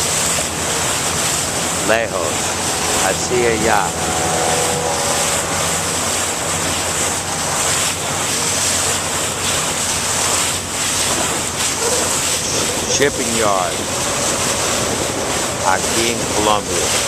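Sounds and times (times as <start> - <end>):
motorboat engine drone: 0.0 - 17.0
water rushing past hull: 0.0 - 17.0
wind buffeting microphone: 0.0 - 17.0.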